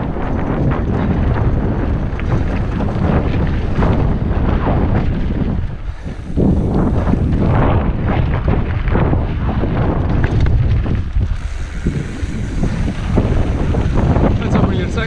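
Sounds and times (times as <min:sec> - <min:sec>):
bike knocks and rattles: 0:00.0 - 0:15.0
wind buffeting microphone: 0:00.0 - 0:15.0
tyres rumbling over gravel: 0:00.8 - 0:15.0.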